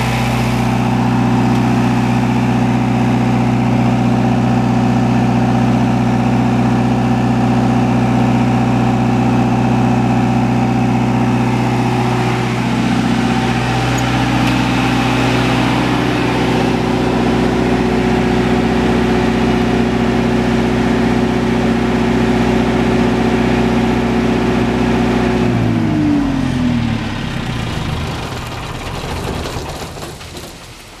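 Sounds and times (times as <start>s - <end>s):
diesel generator running: 0.0s - 31.0s
generator engine spinning down: 0.0s - 31.0s.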